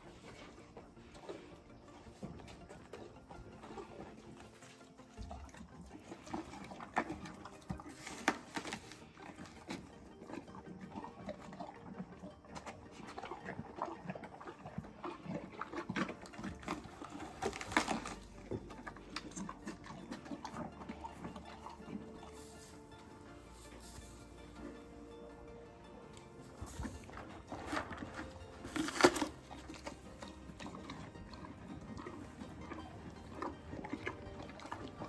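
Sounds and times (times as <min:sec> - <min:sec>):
animal munching crunches: 0:00.0 - 0:35.0.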